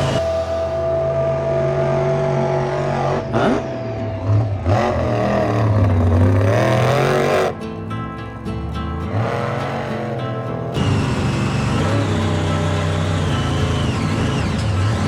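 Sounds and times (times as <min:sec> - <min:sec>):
background music: 0:00.0 - 0:15.0
truck engine revving: 0:00.0 - 0:15.0.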